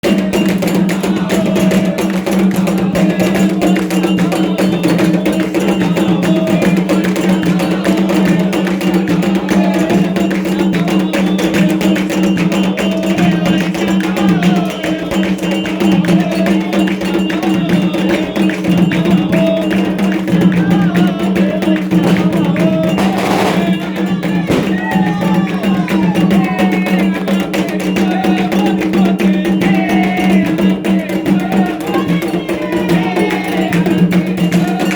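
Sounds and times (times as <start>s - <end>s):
drumming: 0.0s - 34.9s
voices chanting: 0.0s - 34.9s
wooden percussion beat: 0.0s - 34.9s.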